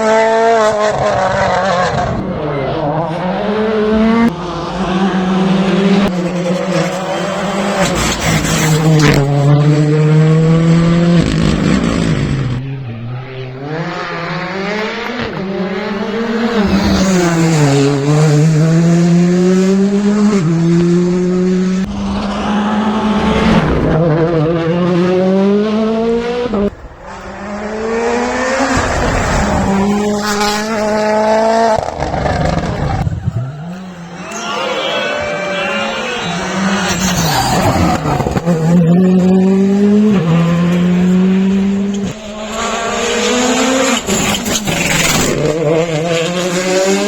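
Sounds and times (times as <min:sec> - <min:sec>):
rally car engine revving hard: 0:00.0 - 0:47.0.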